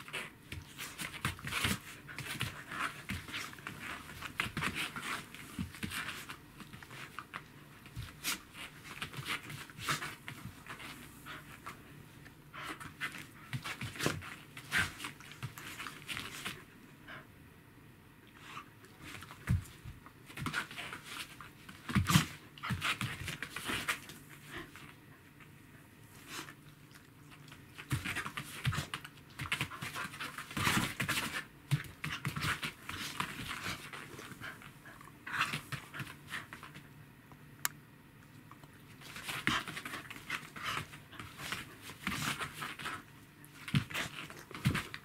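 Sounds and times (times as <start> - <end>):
paws scuffling on floor mat: 0.0 - 11.9, 12.6 - 16.7, 19.0 - 25.0, 27.3 - 36.9, 38.8 - 45.0.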